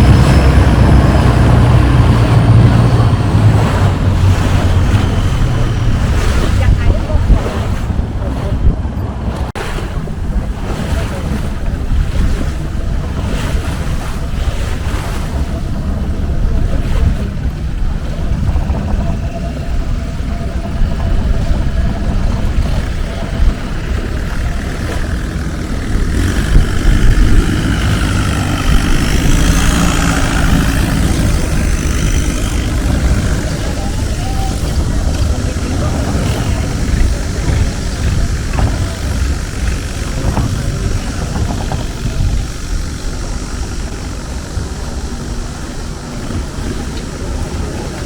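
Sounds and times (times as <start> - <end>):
boat engine running: 0.0 - 48.0
water rushing: 0.0 - 48.0
wind buffeting microphone: 0.0 - 48.0.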